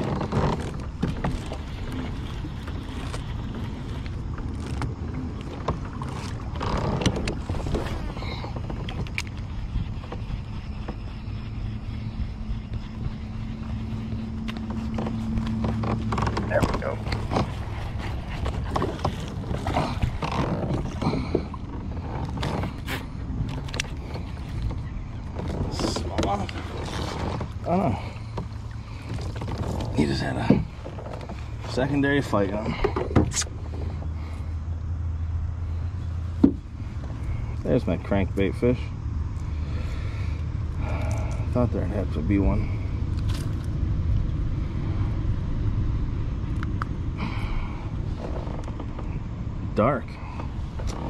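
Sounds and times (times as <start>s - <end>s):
low rumble of wind and water: 0.0s - 51.0s.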